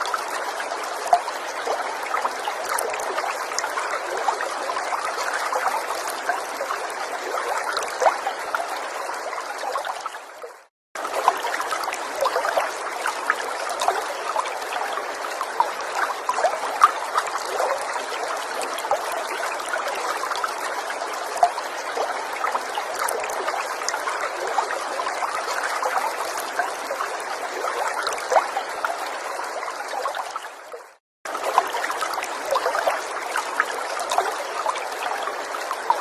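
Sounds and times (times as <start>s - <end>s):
stream trickling over stones: 0.0s - 36.0s.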